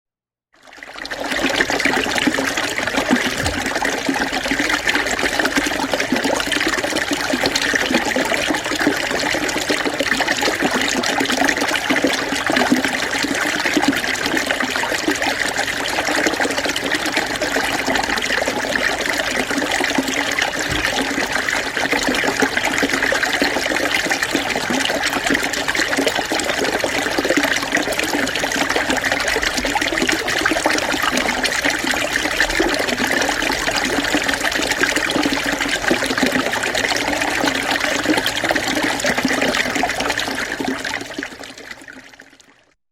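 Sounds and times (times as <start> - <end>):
stream running over stones: 0.6 - 42.4.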